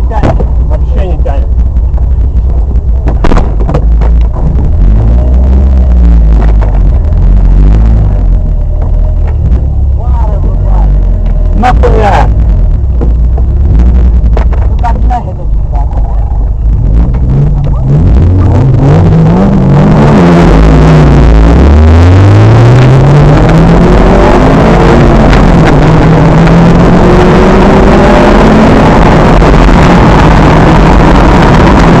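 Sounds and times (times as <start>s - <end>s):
car engines revving: 0.0s - 32.0s
loud engine drone: 0.0s - 32.0s.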